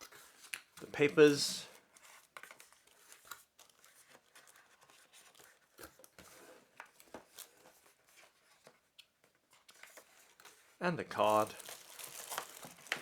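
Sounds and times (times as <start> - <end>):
paper and cardboard rustling: 0.0 - 13.0.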